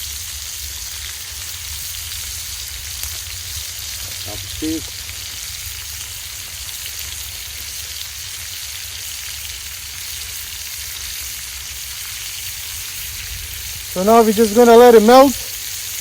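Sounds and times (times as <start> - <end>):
burger patties sizzling: 0.0 - 16.0.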